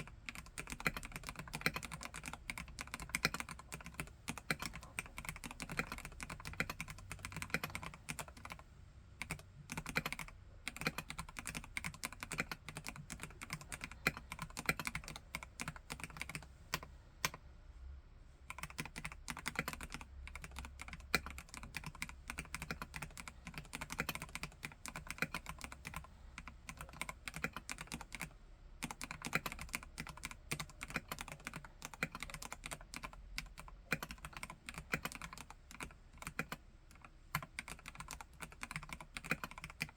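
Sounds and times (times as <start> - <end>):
mechanical keyboard typing: 0.0 - 8.6, 9.2 - 17.4, 18.5 - 39.9.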